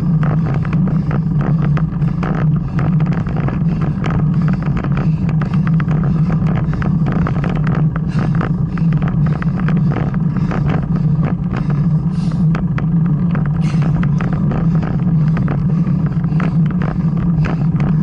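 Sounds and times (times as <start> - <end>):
bicycle clicks and rattles: 0.0 - 18.0
bicycle riding drone: 0.0 - 18.0.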